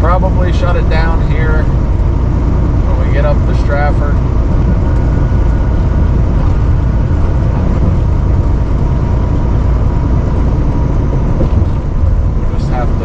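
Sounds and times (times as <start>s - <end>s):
faint steady whine: 0.0s - 13.0s
road noise inside cab: 0.0s - 13.0s
truck diesel engine drone: 0.0s - 13.0s.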